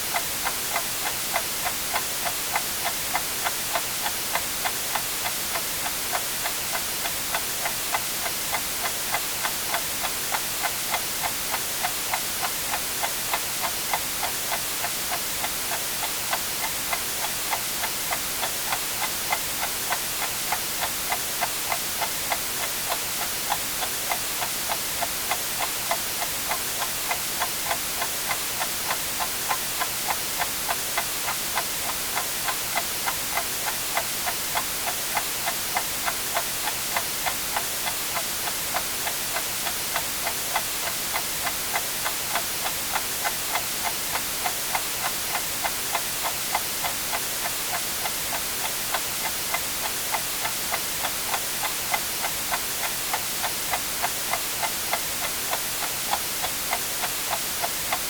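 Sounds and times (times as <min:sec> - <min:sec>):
white noise hiss: 0:00.0 - 0:58.0
clock ticking: 0:00.1 - 0:58.0.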